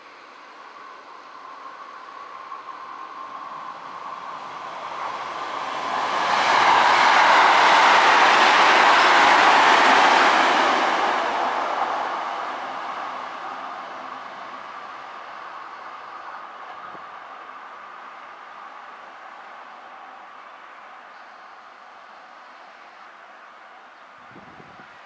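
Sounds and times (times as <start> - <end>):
electric train passing: 0.0 - 23.8.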